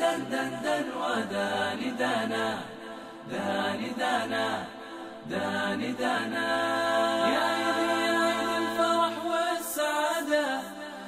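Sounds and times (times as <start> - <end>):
chanted vocals: 0.0 - 11.0.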